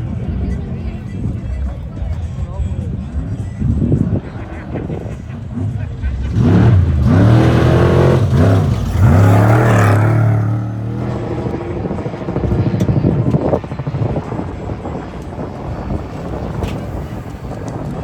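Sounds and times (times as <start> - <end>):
race vehicle engine revving: 2.8 - 18.0.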